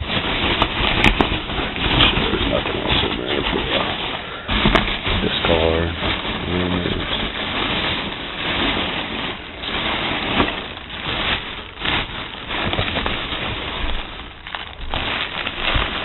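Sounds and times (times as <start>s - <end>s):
packing material rustling: 0.0s - 16.0s.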